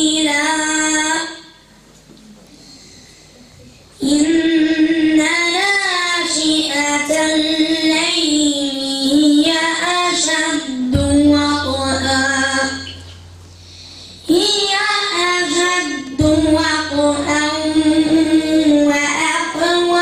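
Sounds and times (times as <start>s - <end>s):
boy chanting into microphone: 0.0s - 1.6s, 4.0s - 13.2s, 14.2s - 20.0s.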